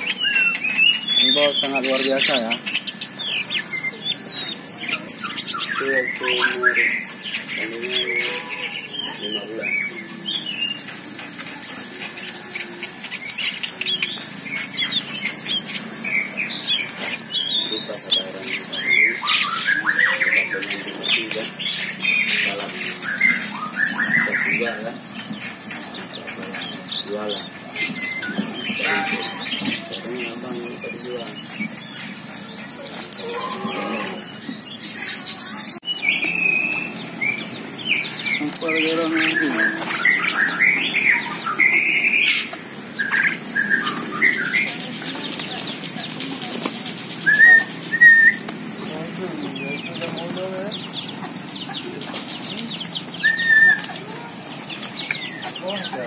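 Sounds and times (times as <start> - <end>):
mynas squawking and whistling: 0.0 - 11.0, 11.8 - 56.0
many birds calling: 0.0 - 56.0.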